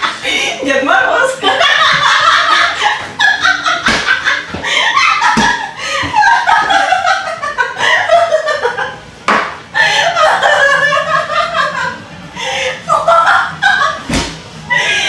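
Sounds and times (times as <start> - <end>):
people laughing hard: 0.0 - 15.0.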